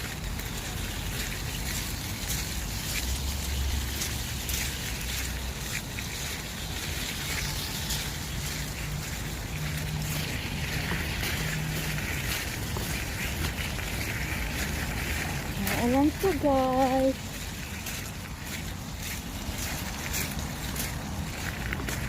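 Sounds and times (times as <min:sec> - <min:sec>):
rain: 0:00.0 - 0:22.0.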